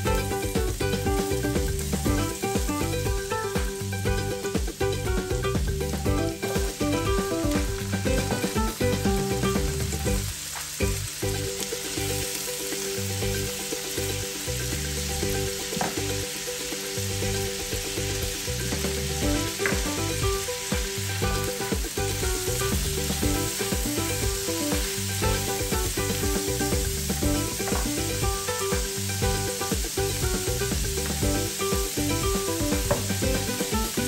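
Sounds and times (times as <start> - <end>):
vegetables sizzling in a wok: 0.0 - 34.0.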